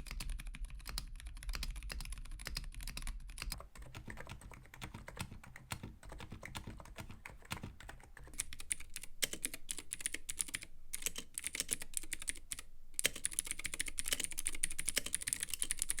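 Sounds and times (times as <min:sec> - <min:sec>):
keyboard typing clicks: 0:00.0 - 0:16.0.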